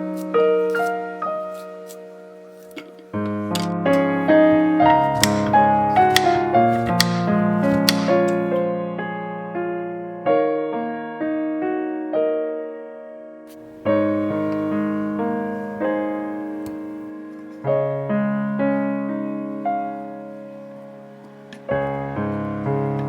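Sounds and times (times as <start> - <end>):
slow piano music: 0.0 - 23.0.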